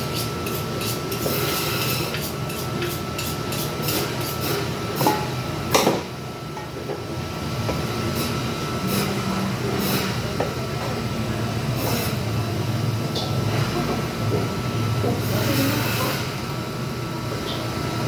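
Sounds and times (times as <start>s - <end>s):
rumbling hum with whine: 0.0s - 18.0s.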